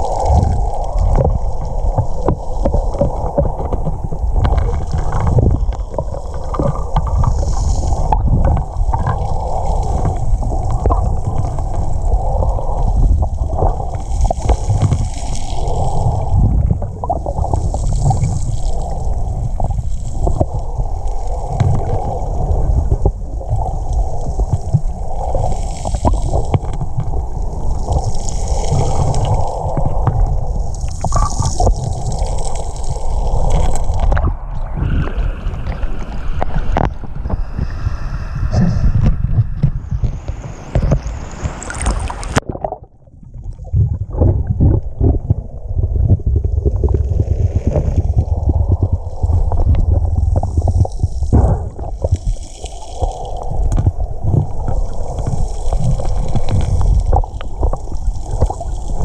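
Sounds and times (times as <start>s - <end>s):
muffled underwater rumble and sloshing: 0.0s - 59.0s.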